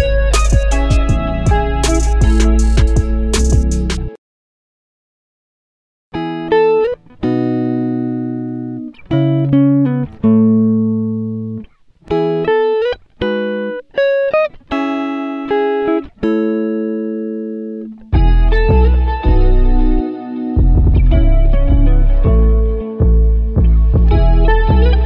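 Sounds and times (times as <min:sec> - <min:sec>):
plucked guitar music: 0:00.0 - 0:04.2, 0:06.2 - 0:25.0.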